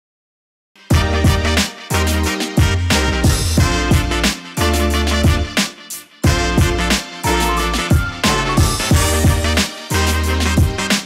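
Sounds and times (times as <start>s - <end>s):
music with heavy bass: 0.9s - 11.0s.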